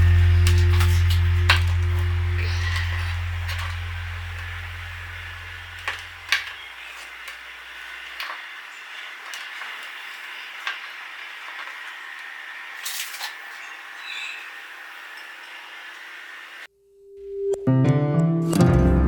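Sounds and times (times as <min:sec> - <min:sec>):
low hum: 0:00.0 - 0:16.7
steady hiss: 0:00.0 - 0:16.7.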